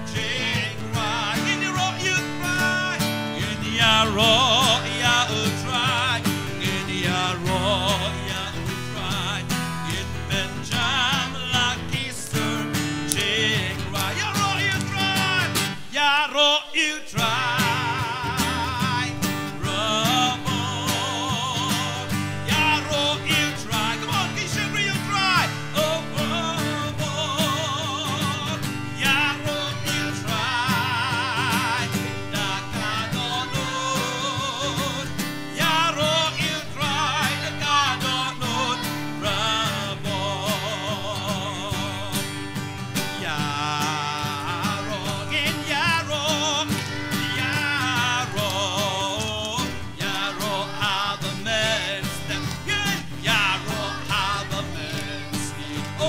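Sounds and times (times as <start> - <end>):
children's choir singing: 0.0 - 56.0
guitar accompaniment: 0.0 - 56.0.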